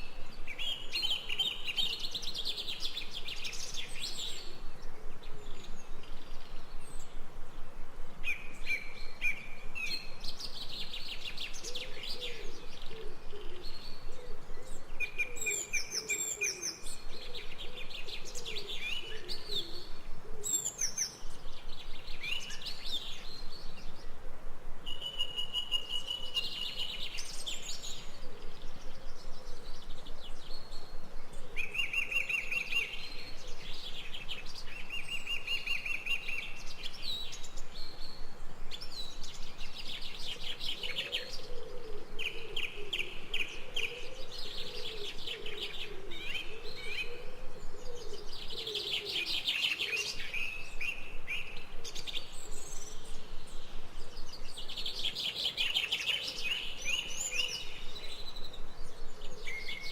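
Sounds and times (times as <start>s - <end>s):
birds chirping and trilling: 8.3s - 24.2s, 24.9s - 59.9s.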